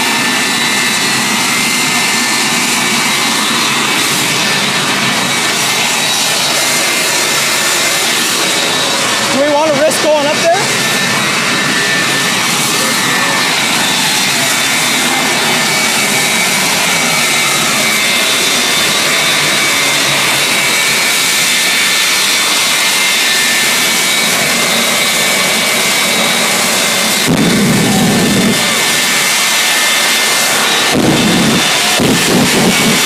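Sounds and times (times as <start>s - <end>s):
high-pitched whine: 0.0s - 33.0s
jet engines roaring: 0.0s - 33.0s.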